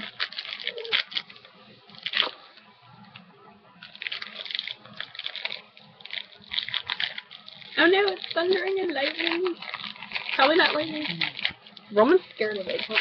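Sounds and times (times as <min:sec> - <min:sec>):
plastic wrapper crinkling: 0:00.0 - 0:03.2, 0:03.8 - 0:13.0.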